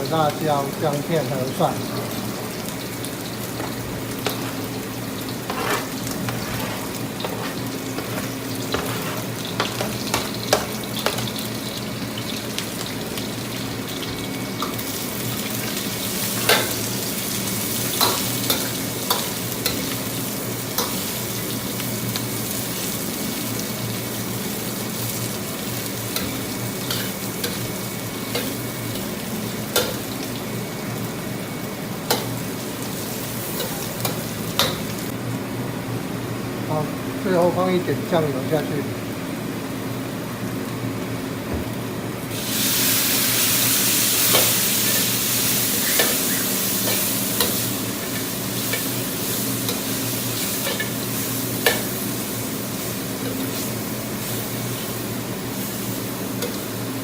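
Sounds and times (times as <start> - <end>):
meat sizzling in hot oil: 0.0 - 35.3, 42.2 - 57.0.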